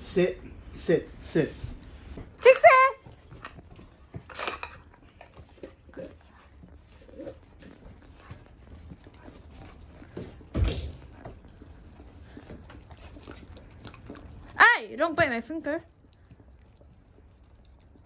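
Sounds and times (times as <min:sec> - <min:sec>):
dogs licking and chewing: 0:00.4 - 0:18.0.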